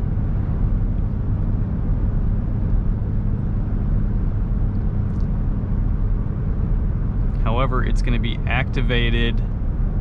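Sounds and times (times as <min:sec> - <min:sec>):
tyre and engine drone in cab: 0:00.0 - 0:10.0.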